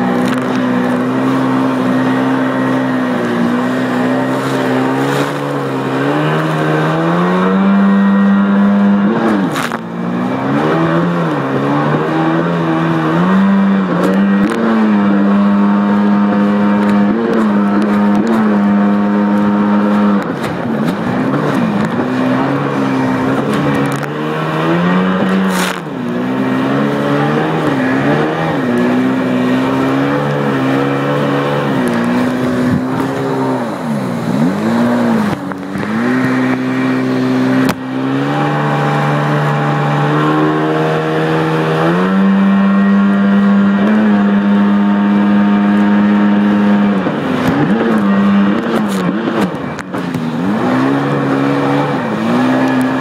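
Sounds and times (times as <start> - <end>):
watercraft engine revving: 0.0 - 53.0.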